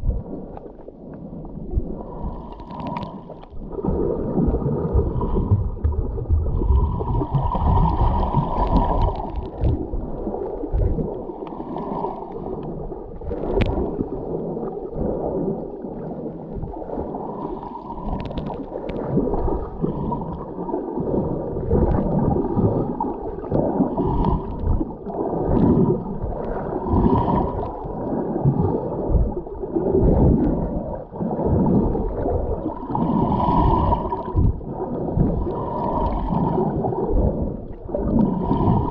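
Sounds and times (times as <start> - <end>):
gurgling exhalation bubbles: 1.6 - 38.9.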